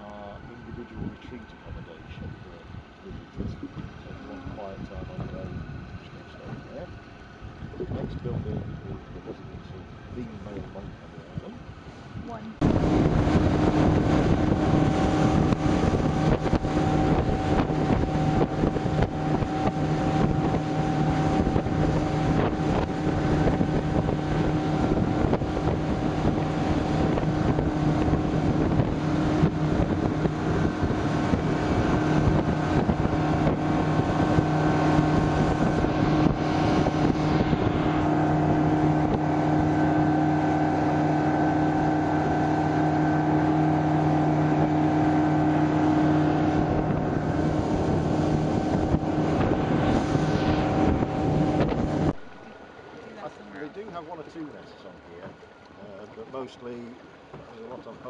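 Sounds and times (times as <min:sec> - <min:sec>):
wind rushing over microphone: 0:00.0 - 0:52.6
boat engine running: 0:00.0 - 0:58.0.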